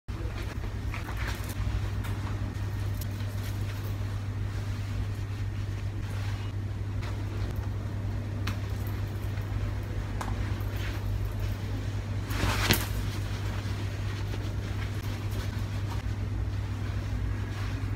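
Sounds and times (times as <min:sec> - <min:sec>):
clothing rustles and clicks: 0:00.1 - 0:07.8, 0:08.4 - 0:17.9
steady low hum: 0:00.1 - 0:17.9.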